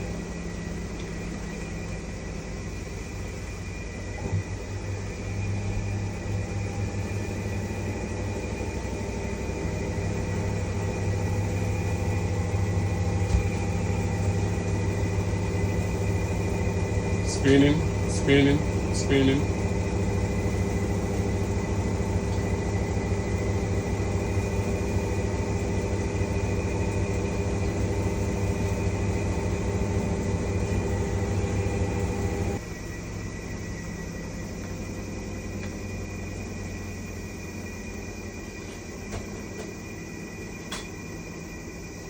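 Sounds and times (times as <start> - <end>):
washing machine spinning: 0.0 - 42.0.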